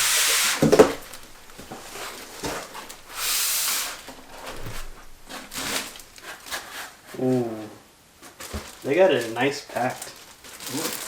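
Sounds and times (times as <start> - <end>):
packaging rustling and scraping: 0.0 - 7.4, 8.2 - 11.0.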